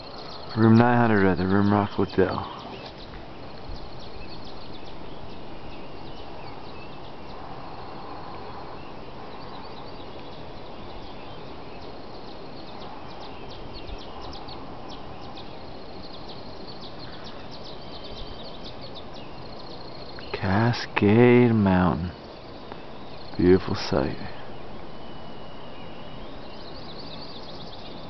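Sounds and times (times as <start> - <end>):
small birds chirping: 0.0 - 28.0
steady background noise: 0.0 - 28.0.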